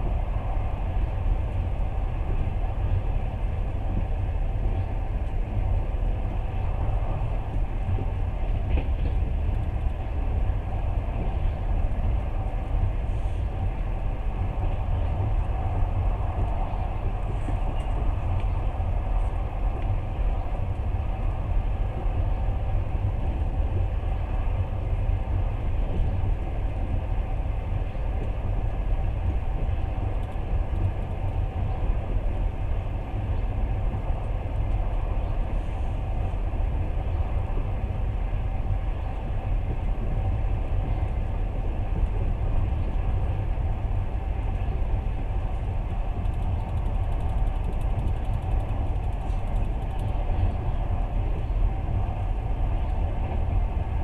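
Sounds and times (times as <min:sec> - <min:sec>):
moving train rumble: 0:00.0 - 0:54.0.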